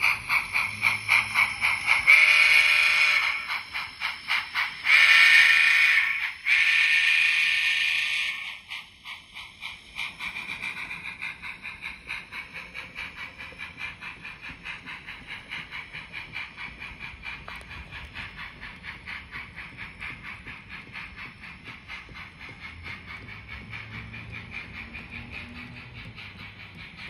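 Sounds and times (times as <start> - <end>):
model steam locomotive chuffing: 0.0 - 27.0.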